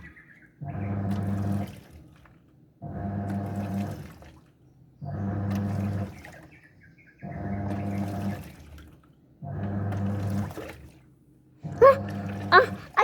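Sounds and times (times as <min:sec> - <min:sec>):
washing machine drum motor humming: 0:00.0 - 0:06.4, 0:07.2 - 0:13.0
water sloshing: 0:00.0 - 0:13.0.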